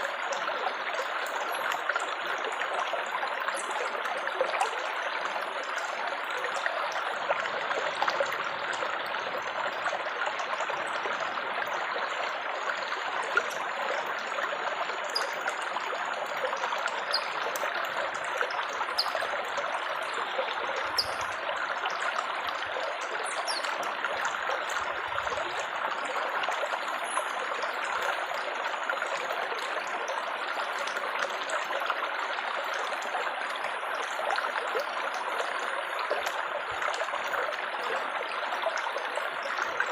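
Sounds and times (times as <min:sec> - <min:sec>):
water gurgling and splashing: 0:00.0 - 0:39.9.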